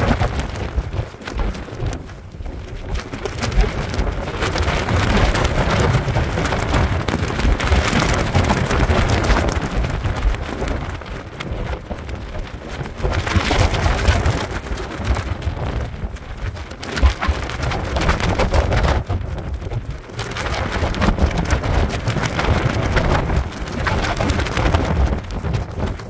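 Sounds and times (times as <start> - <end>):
strong wind gusting on microphone: 0.0 - 26.0.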